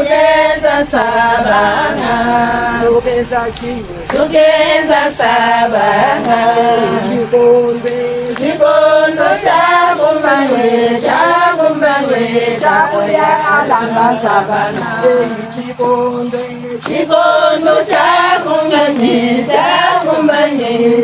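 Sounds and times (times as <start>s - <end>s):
women singing together: 0.0s - 21.0s.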